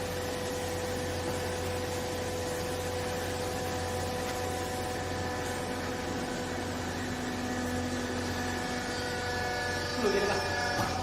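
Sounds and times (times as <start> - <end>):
baler machine humming: 0.0 - 11.0.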